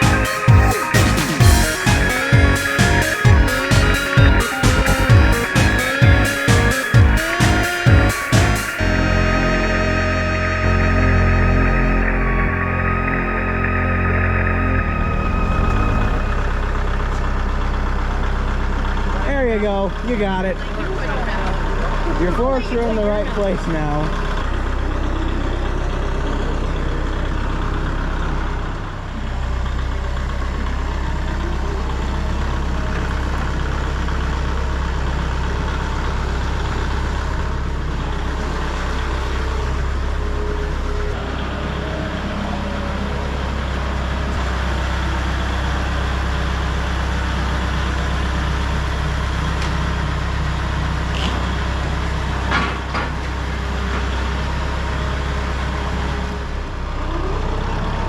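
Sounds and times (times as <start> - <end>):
forklift engine idling: 0.0 - 58.0.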